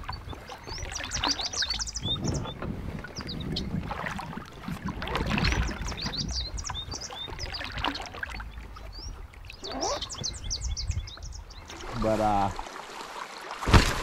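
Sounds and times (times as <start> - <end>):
songbirds chirping: 0.0 - 12.7
river current rumbling: 0.0 - 14.0.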